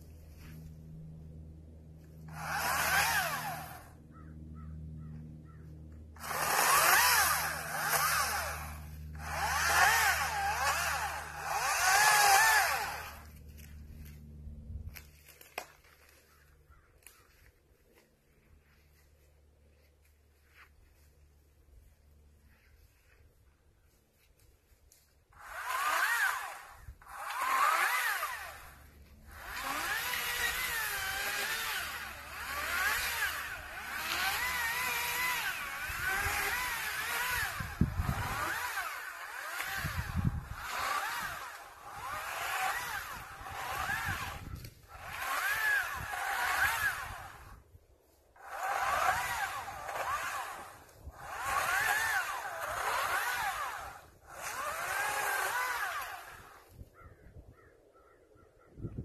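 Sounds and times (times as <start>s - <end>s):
chainsaw cutting branches: 0.0s - 57.0s.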